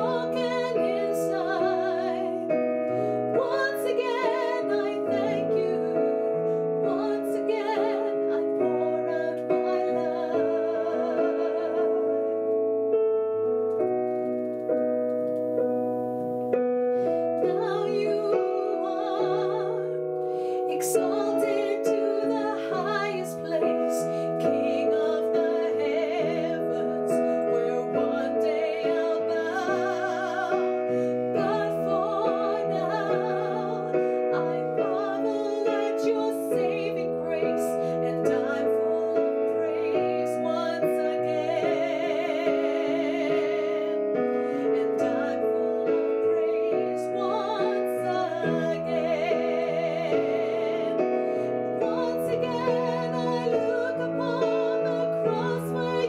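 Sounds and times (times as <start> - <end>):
woman singing with vibrato: 0.0 - 12.4, 17.2 - 56.0
piano chords: 0.0 - 56.0.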